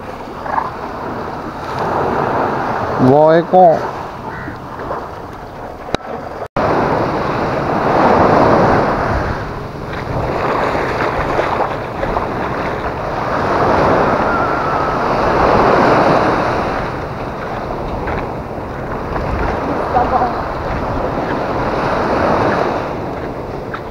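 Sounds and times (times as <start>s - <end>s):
small waves breaking on shore: 0.0s - 23.9s
wind buffeting microphone: 0.0s - 23.9s.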